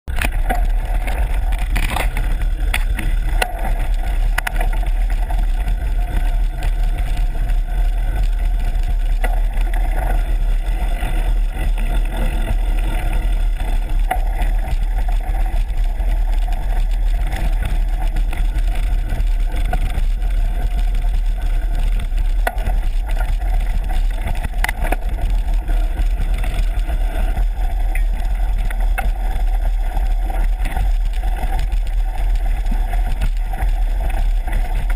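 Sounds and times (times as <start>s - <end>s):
bike rattling over bumps: 0.1s - 34.9s
wind and ride rumble: 0.1s - 34.9s.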